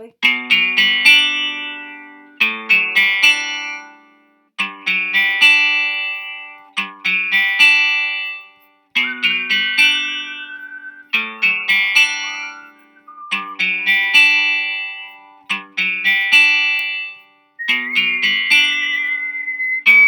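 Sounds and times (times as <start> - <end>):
acoustic guitar picked notes: 0.0 - 20.0.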